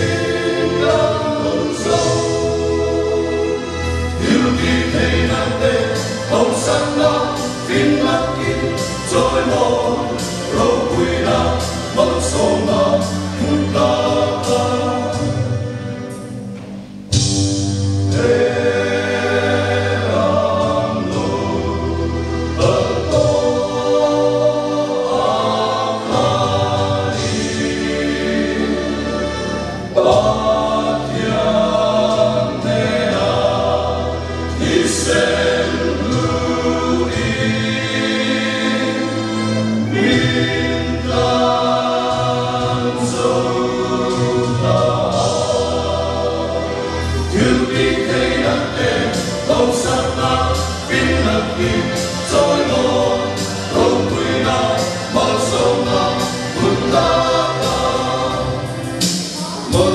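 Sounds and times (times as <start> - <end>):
male choir singing: 0.0 - 16.3, 17.9 - 59.9.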